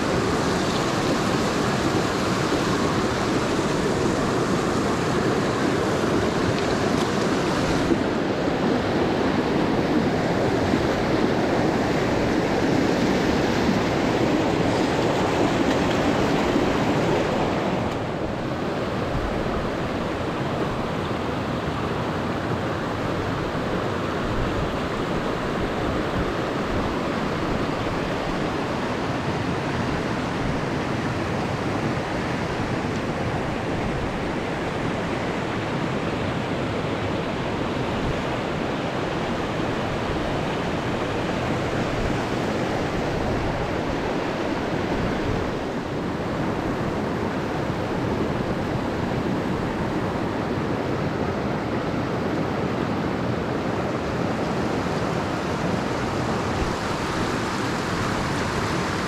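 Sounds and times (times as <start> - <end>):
mountain stream rushing: 0.0 - 59.0.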